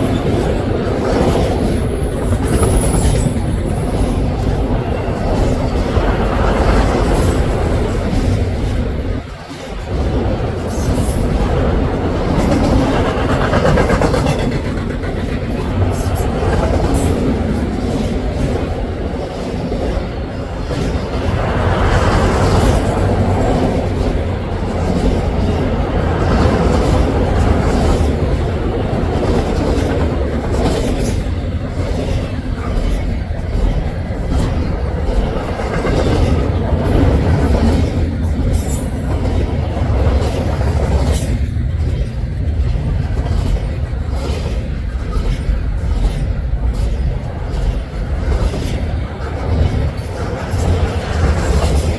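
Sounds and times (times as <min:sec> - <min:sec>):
freight train wheels rumbling on rail: 0:00.0 - 0:51.9.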